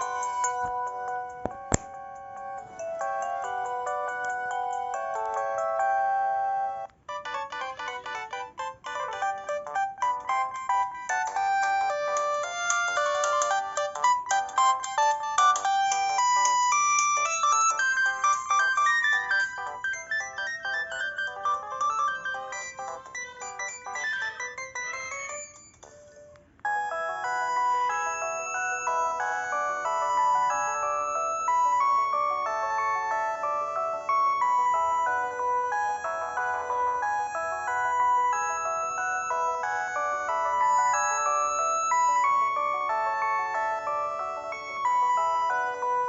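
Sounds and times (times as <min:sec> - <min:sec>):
electronic ringtone melodies: 0:00.0 - 0:46.0.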